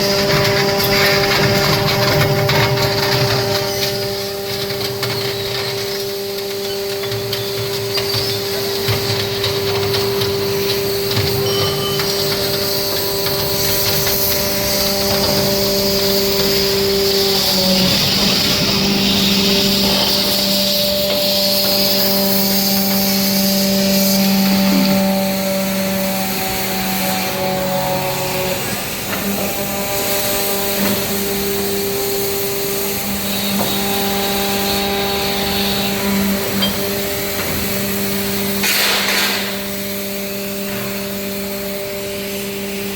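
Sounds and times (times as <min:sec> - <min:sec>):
baling press machine hum: 0:00.0 - 0:42.9.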